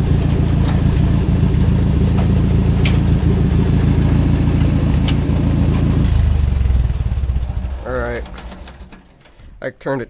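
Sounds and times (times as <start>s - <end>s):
tractor engine idling: 0.0s - 9.6s.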